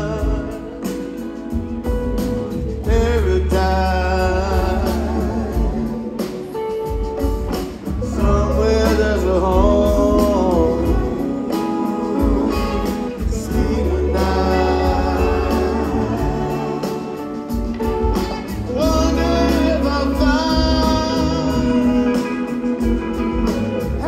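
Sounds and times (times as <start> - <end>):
live band playing soul song: 0.0 - 24.0
person singing: 0.0 - 24.0
heavy bass line: 1.5 - 6.2, 6.9 - 11.4, 12.1 - 24.0.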